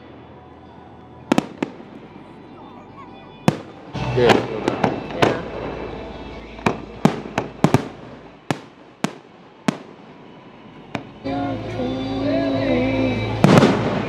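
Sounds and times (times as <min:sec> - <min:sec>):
fireworks bursting with sharp bangs: 0:01.3 - 0:02.3, 0:03.5 - 0:14.0.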